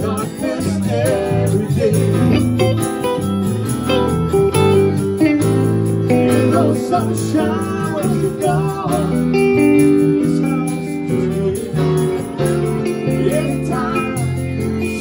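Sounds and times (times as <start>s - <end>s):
acoustic guitar: 0.0s - 15.0s
electric guitar: 0.0s - 15.0s
piano: 0.0s - 15.0s
tambourine: 0.0s - 15.0s.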